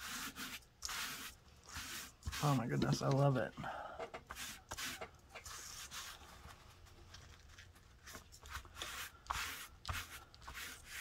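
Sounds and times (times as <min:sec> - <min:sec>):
hands rubbing paper: 0:00.0 - 0:03.2, 0:04.3 - 0:11.0.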